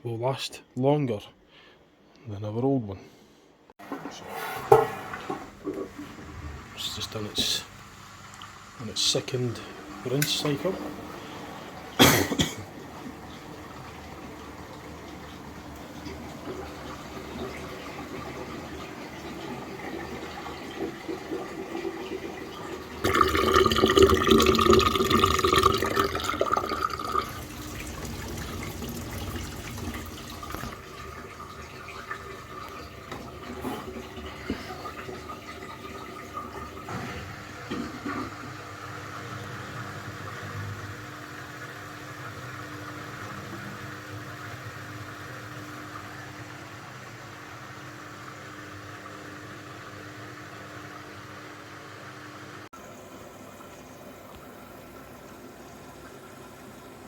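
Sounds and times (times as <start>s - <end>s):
washing machine low hum: 3.8s - 57.0s.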